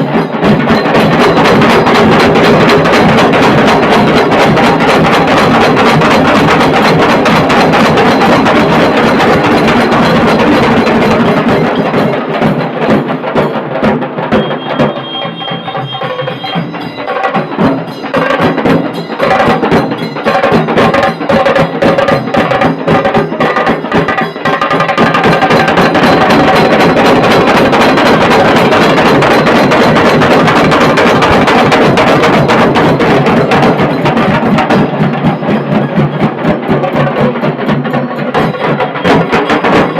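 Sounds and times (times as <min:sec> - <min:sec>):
bass drum beats: 0:00.0 - 0:39.9
cracking snare drum strokes: 0:00.0 - 0:39.9.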